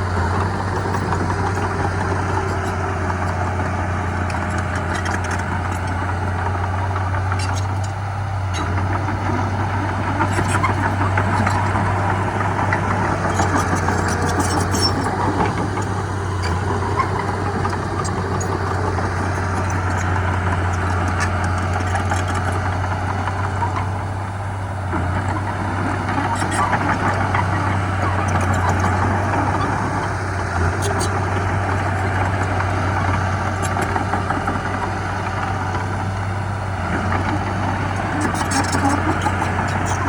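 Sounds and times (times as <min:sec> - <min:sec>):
diesel machinery engine running: 0:00.0 - 0:40.0.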